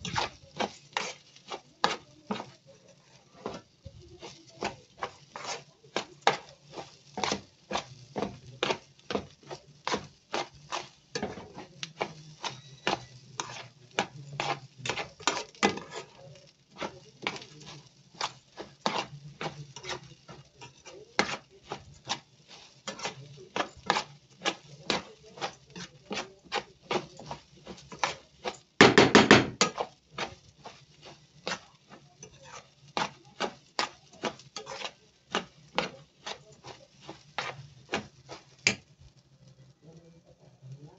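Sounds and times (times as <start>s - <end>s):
spoon stirring rice in metal pot: 0.0s - 40.6s.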